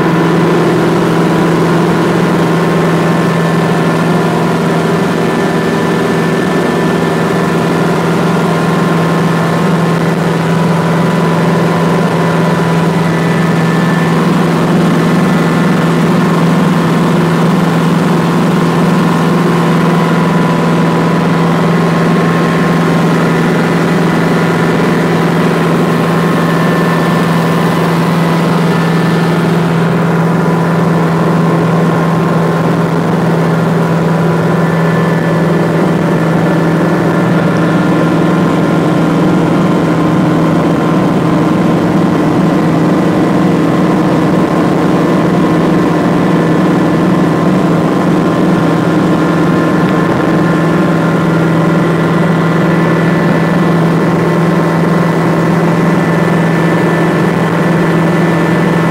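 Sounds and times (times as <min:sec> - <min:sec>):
helicopter engine and rotors droning: 0:00.0 - 0:58.9.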